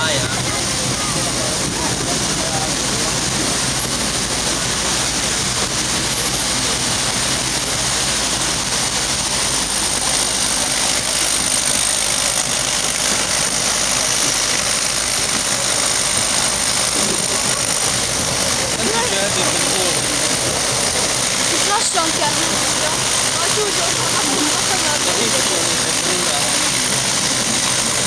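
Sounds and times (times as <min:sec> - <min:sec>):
locomotive engine droning: 0:00.0 - 0:28.0
train wheels on track: 0:00.0 - 0:28.0.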